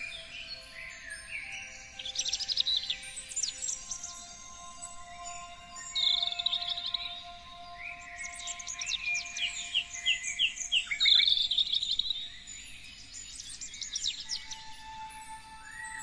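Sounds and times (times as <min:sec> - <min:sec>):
songbirds singing and chirping: 0:00.0 - 0:16.0.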